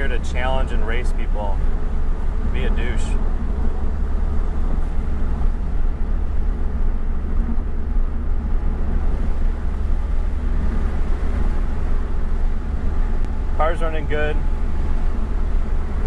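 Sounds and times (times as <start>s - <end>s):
car engine running: 0.0s - 16.0s
road and cabin rumble: 0.0s - 16.0s.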